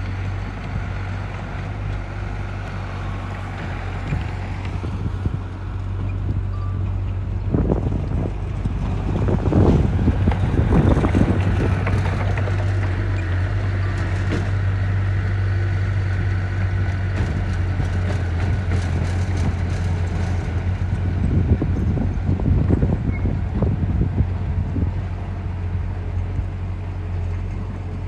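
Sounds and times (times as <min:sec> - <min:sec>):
heavy machinery diesel engine drone: 0:00.0 - 0:28.0.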